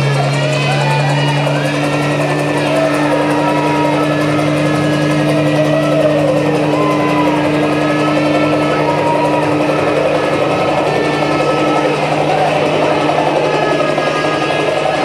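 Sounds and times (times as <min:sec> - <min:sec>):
engine drone over loudspeakers: 0:00.0 - 0:15.0
people crying out: 0:00.0 - 0:15.0.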